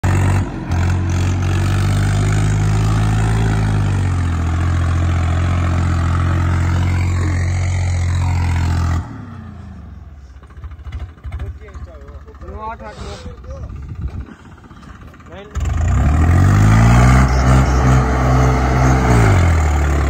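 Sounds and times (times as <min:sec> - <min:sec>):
tractor diesel engine droning: 0:00.0 - 0:20.0.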